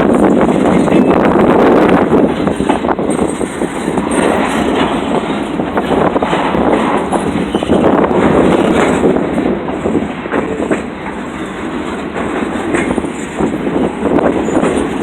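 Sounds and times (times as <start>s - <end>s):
freight train cars rolling past: 0.0s - 15.0s
wheels clicking over rail joints: 0.0s - 15.0s.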